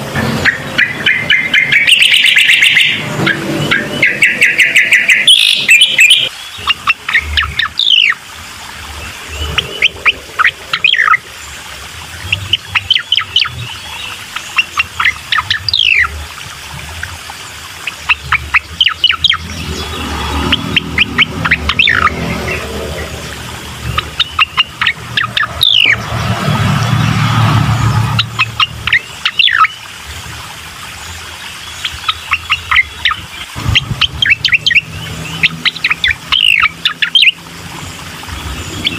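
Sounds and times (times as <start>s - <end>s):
recorded birdsong chirps and whistles: 0.0s - 38.9s.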